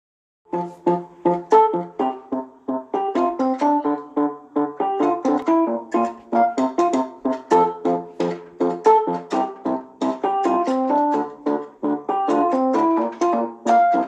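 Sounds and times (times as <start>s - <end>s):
electronic keyboard ringtone melody: 0.5s - 14.0s.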